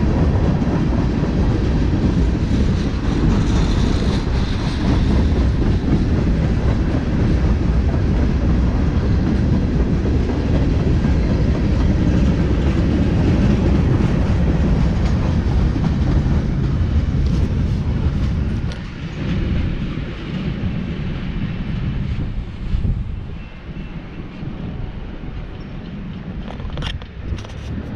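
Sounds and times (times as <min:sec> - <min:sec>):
train rumbling along track: 0:00.0 - 0:27.9.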